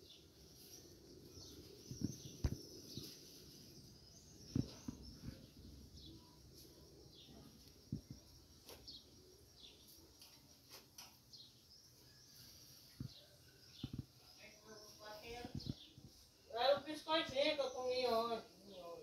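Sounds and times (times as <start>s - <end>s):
faint outdoor background: 0.0s - 19.0s
small birds chirping: 0.0s - 19.0s.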